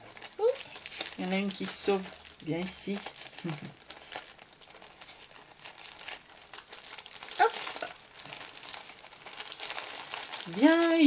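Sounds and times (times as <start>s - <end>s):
cellophane packaging crinkling: 0.0s - 11.0s.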